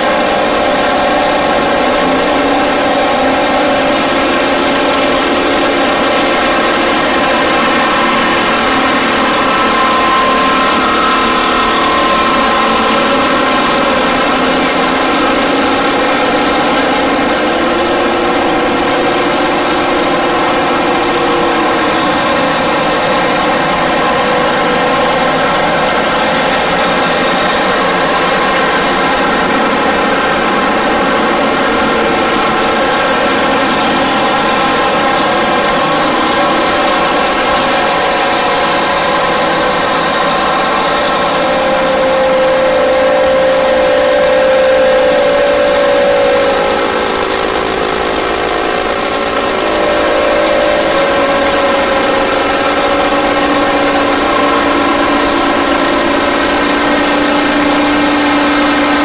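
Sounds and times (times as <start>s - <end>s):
heavy diesel engine running hard: 0.0s - 59.0s.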